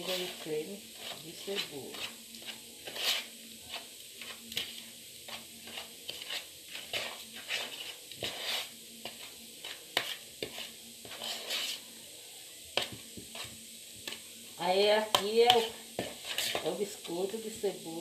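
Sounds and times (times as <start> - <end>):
wet mixing strokes in bowl: 0.0 - 12.0, 12.8 - 17.7.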